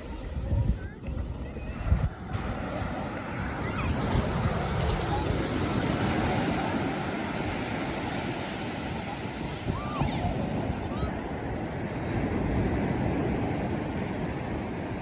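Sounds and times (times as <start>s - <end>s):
ocean surf breaking on shore: 0.0s - 15.0s
wind buffeting microphone: 0.0s - 15.0s.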